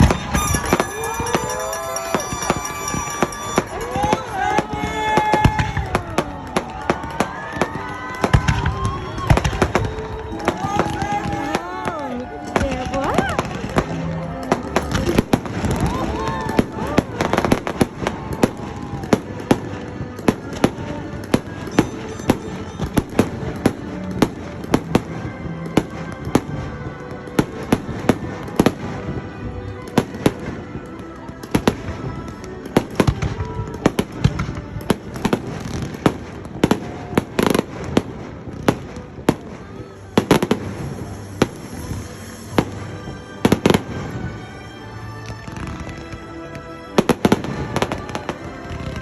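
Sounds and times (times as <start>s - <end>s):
fireworks banging: 0.0s - 49.0s
music playing: 0.0s - 49.0s.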